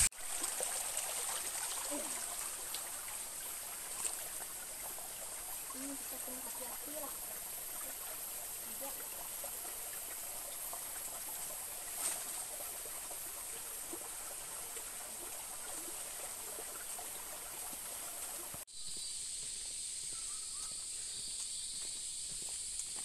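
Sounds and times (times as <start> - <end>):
running water hiss: 0.0 - 23.0
high-pitched insect chorus: 1.9 - 15.1, 15.7 - 23.0.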